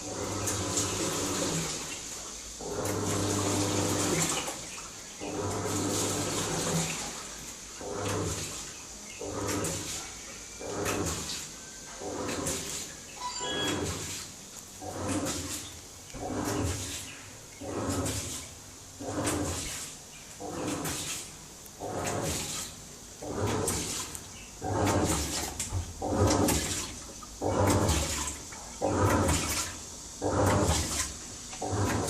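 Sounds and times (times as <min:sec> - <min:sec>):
water sloshing in washing machine: 0:00.0 - 0:32.0.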